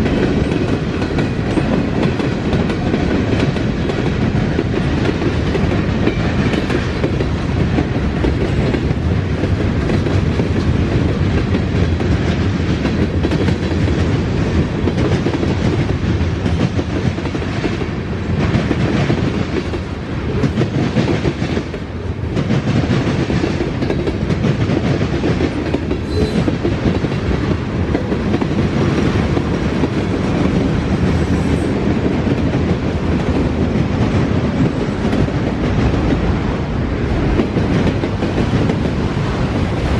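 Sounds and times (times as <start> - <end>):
wheels clicking over rail joints: 0.0 - 17.9, 18.6 - 36.3
freight train cars rolling: 0.0 - 39.9.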